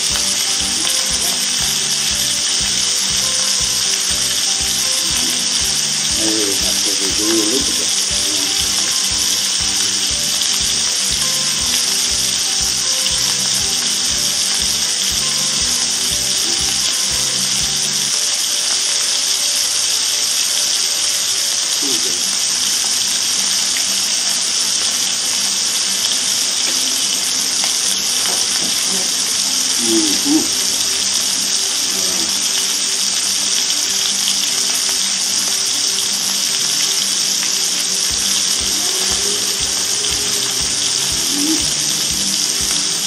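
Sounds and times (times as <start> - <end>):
duck breasts sizzling in fat: 0.0 - 43.0.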